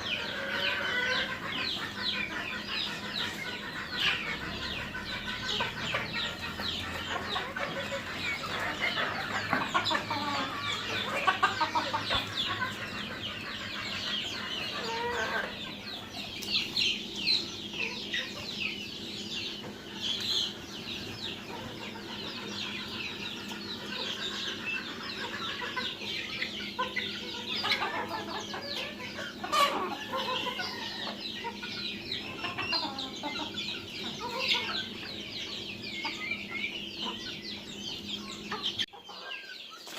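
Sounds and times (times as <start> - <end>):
chickens clucking and calling: 0.0 - 39.9.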